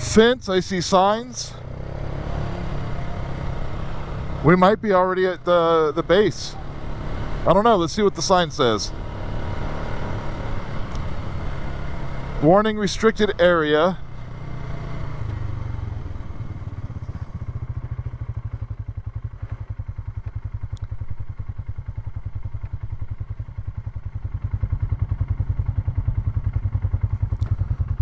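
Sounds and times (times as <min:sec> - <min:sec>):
atv engine running at low revs: 0:00.0 - 0:28.0.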